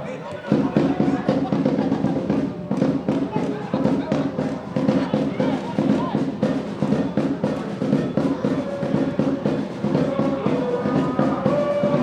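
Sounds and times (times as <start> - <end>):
drums beating fast: 0.5 - 12.0.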